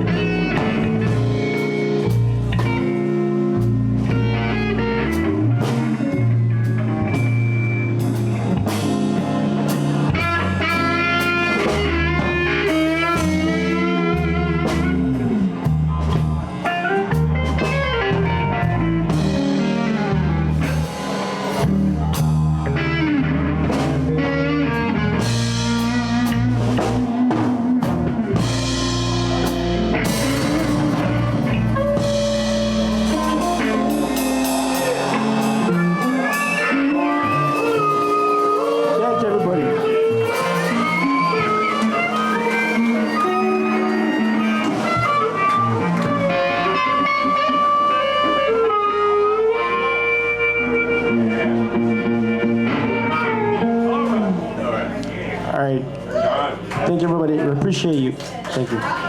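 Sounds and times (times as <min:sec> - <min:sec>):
lead guitar bending in pitch: 0:00.0 - 0:16.0, 0:16.6 - 0:55.1
blues band playing: 0:00.0 - 0:59.0.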